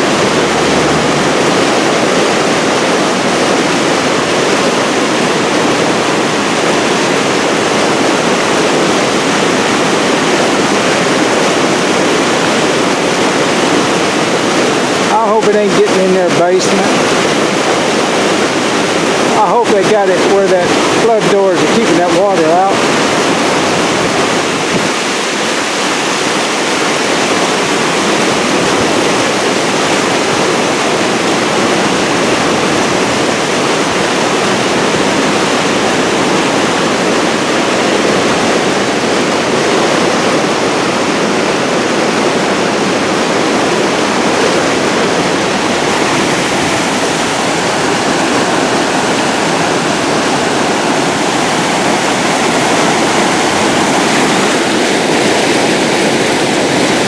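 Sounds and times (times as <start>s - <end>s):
floodwater rushing over dam: 0.0s - 57.0s.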